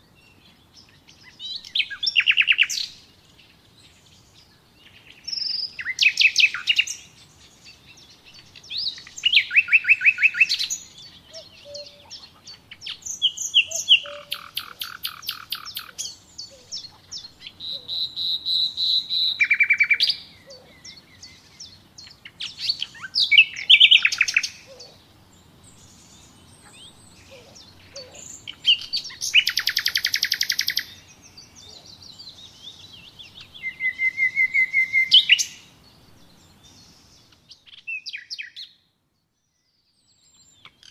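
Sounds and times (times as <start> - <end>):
faint bird chirps: 0.0 - 40.9
songbird trills and whistles: 4.9 - 25.0, 25.8 - 38.8.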